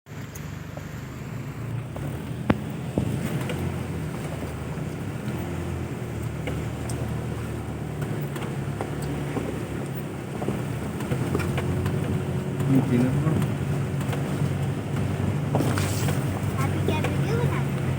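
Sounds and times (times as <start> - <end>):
diesel engine running: 0.1 - 17.9
rattles and knocks: 1.8 - 17.9.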